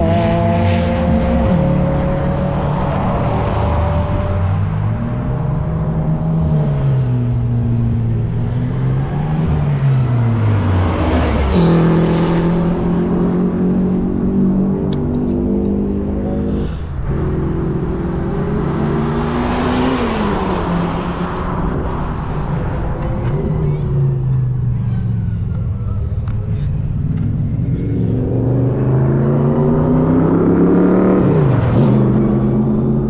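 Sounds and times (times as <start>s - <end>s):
race cars passing at speed: 0.0s - 33.0s.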